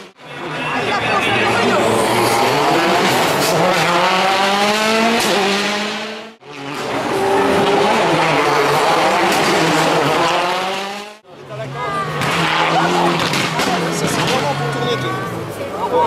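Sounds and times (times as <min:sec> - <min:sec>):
rally car engines accelerating: 0:00.0 - 0:16.0.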